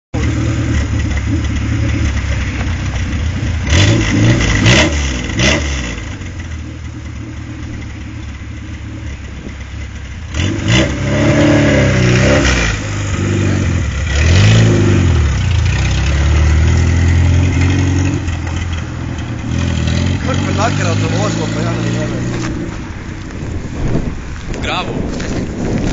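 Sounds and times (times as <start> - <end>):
car engine revving and idling: 0.2 - 25.9.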